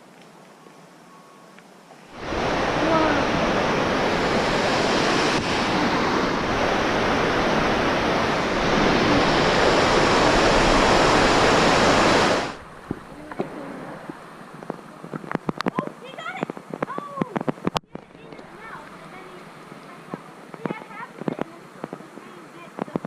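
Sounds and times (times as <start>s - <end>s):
waterfall rushing: 2.1s - 17.0s, 18.0s - 22.7s.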